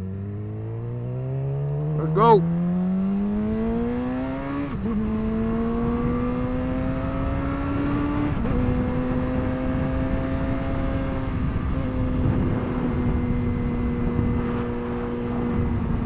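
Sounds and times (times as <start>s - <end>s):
motorcycle accelerating hard: 0.0s - 16.0s.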